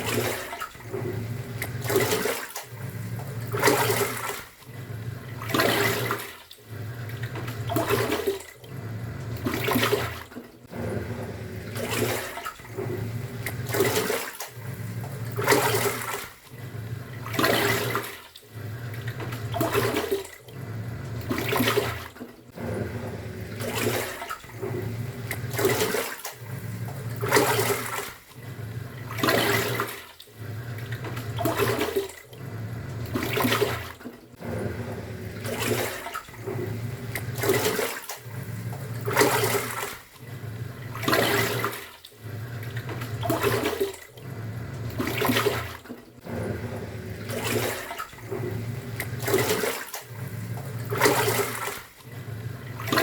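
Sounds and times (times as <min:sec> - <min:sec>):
washing machine motor humming: 0:00.0 - 0:53.0
water and laundry sloshing: 0:00.0 - 0:53.0.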